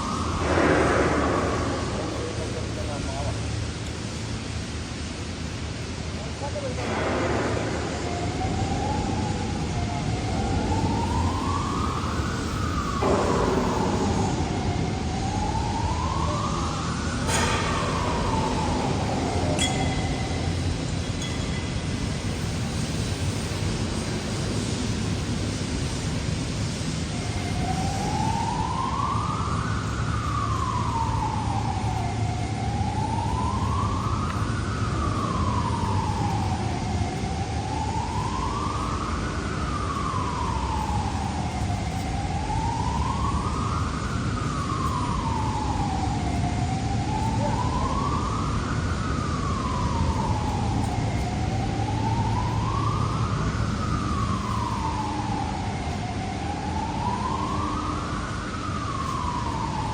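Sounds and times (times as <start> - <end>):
low machinery rumble: 0.0 - 59.9
slow wailing siren: 0.0 - 59.9.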